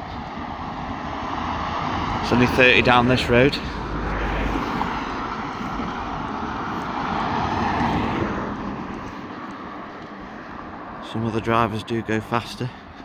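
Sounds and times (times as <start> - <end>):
vehicle passing by: 0.4 - 11.0.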